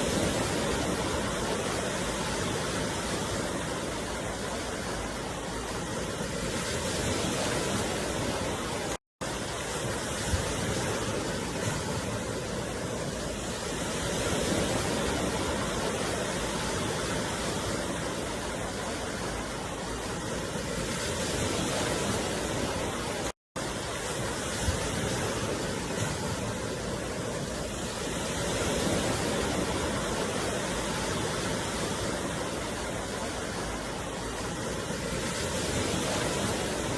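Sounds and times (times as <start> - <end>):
surf: 0.0 - 36.9
wind: 0.0 - 36.9.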